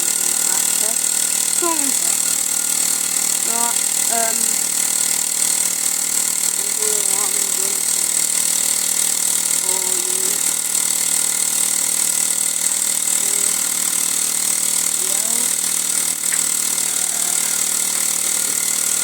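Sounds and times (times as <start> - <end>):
toy steam engine running: 0.0 - 19.0.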